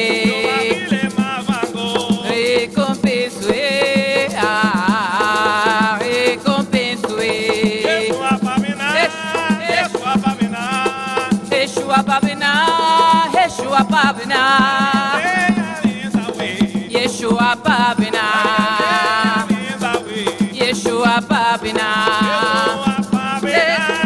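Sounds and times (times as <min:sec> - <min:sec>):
shaken rattles: 0:00.0 - 0:24.0
voices singing a chant: 0:00.0 - 0:24.0.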